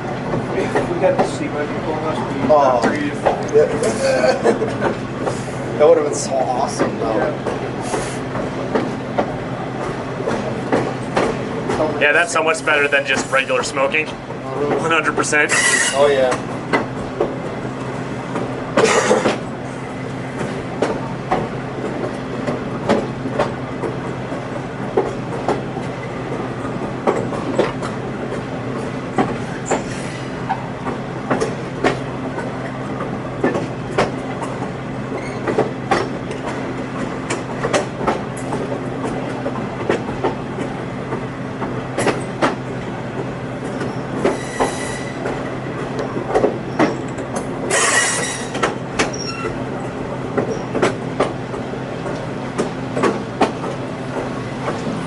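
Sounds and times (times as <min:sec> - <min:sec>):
train low hum: 0:00.0 - 0:55.0
wheels clacking and knocking: 0:00.0 - 0:55.0.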